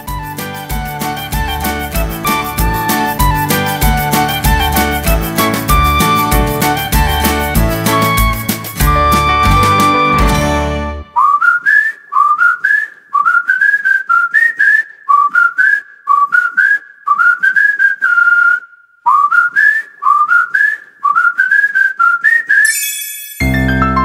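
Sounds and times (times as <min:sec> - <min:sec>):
person whistling a tune: 0:00.0 - 0:23.6.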